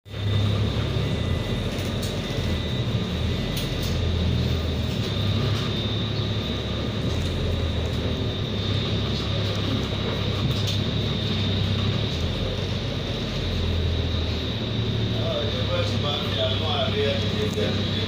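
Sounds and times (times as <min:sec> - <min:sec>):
bus engine droning: 0:00.0 - 0:18.0
high-pitched whine: 0:00.1 - 0:18.0.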